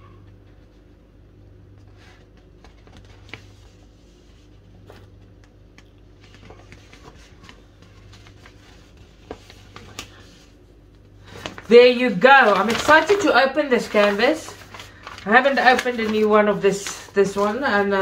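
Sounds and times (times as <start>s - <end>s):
paper rustling: 1.8s - 5.5s, 6.2s - 18.0s.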